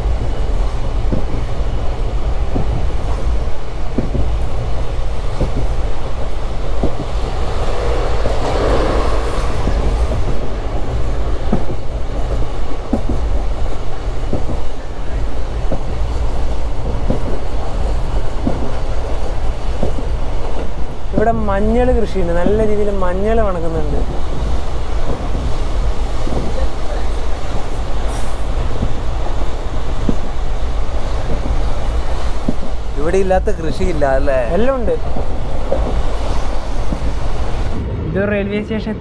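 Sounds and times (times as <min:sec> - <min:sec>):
wheels clicking over rail joints: 0:00.0 - 0:37.8
rush of noise: 0:00.0 - 0:39.0
train wheels rumbling on rails: 0:00.0 - 0:39.0.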